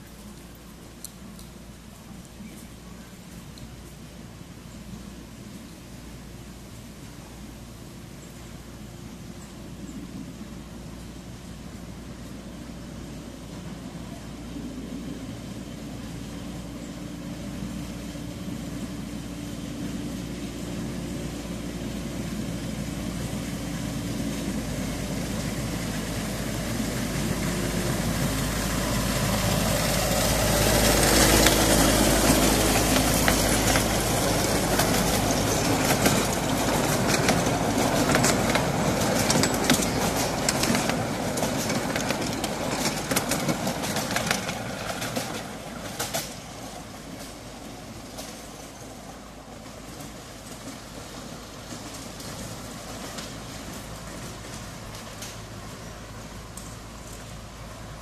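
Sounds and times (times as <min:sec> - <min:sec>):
wheels clicking and rattling on rails: 0:00.0 - 0:58.0
miniature locomotive engine running: 0:11.0 - 0:58.0.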